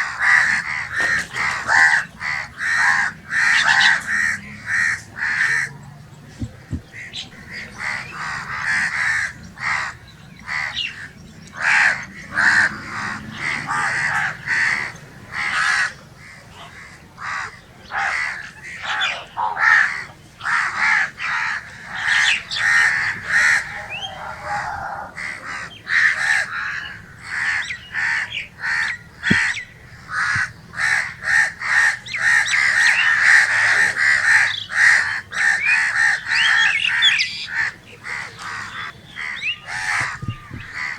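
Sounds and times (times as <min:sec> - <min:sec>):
crows cawing: 0:00.0 - 0:40.9.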